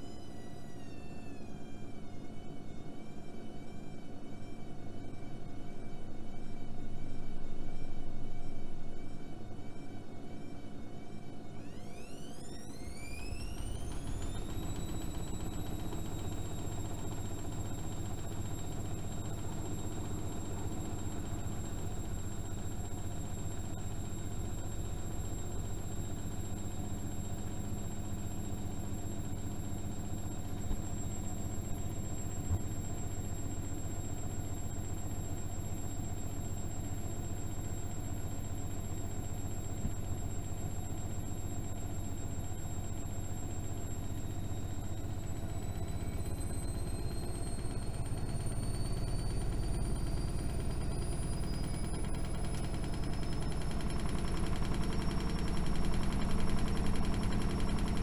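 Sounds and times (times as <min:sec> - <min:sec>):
washing machine motor hum and whine: 0:00.0 - 0:58.0.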